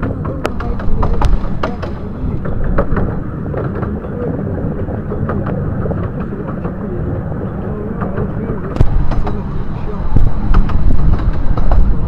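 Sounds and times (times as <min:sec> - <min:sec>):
train rumbling along track: 0:00.0 - 0:12.0
wheels and carriages clicking: 0:00.0 - 0:12.0.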